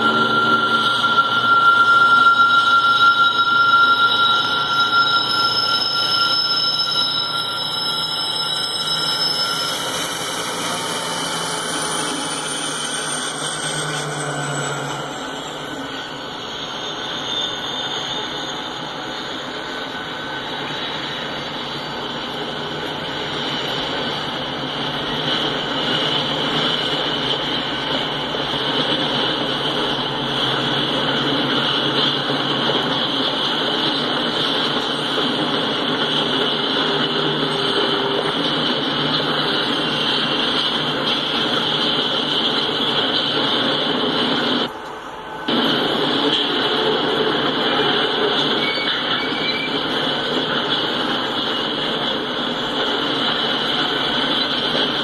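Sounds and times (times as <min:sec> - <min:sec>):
high screech: 0:00.0 - 0:52.2
diesel locomotive passing: 0:00.0 - 0:55.0
high-pitched wheel squeal: 0:00.0 - 0:55.0
wheel-on-rail rumble: 0:07.1 - 0:55.0.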